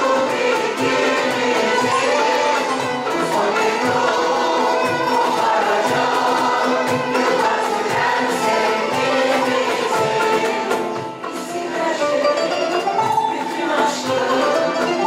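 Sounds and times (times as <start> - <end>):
instrumental accompaniment: 0.0 - 15.0
mixed choir singing: 0.0 - 15.0.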